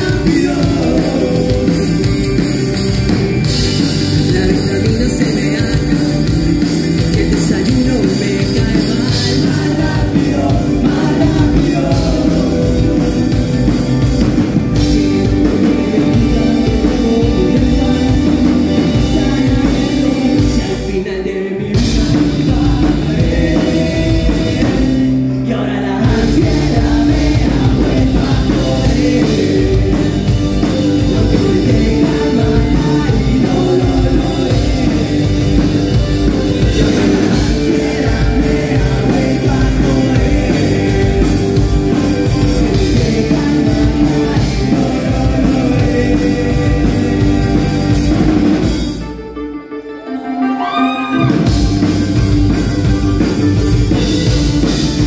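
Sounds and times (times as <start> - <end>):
rock band playing loud: 0.0 - 55.0.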